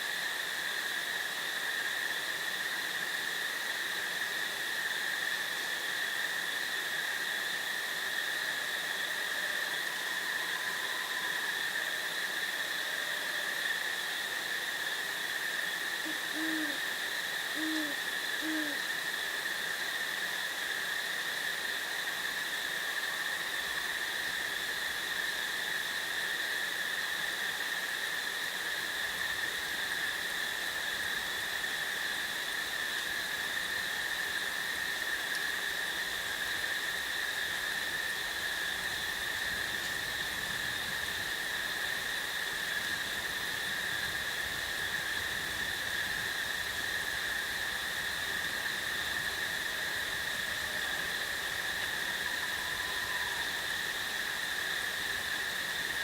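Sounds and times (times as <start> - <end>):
even hiss: 0.0 - 56.0
insects chorus: 0.0 - 56.0.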